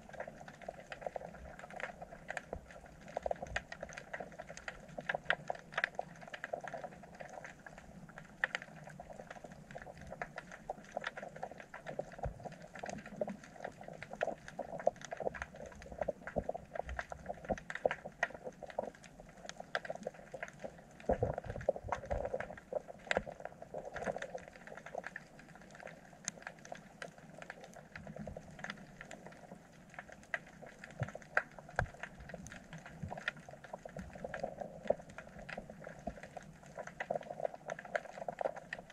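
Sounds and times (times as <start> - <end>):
underwater crackle of clicks: 0.0 - 38.9.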